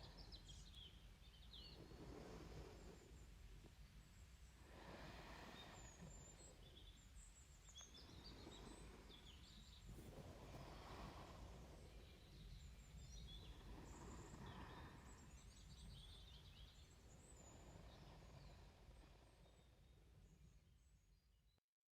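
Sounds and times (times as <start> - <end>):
slow soft breathing: 0.0 - 20.6
faint birds chirping: 0.0 - 21.6.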